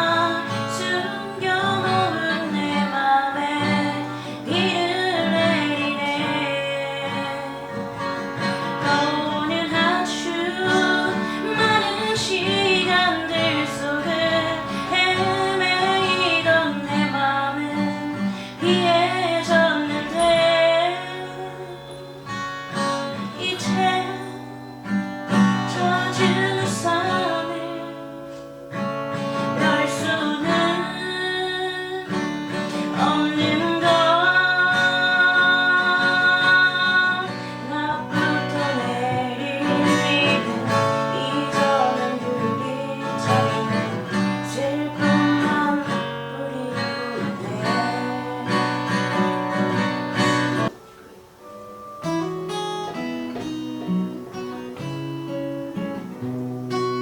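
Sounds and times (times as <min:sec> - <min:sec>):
person singing: 0:00.0 - 0:22.4, 0:23.0 - 0:28.5, 0:29.4 - 0:50.8
acoustic guitar strumming: 0:00.0 - 0:57.0.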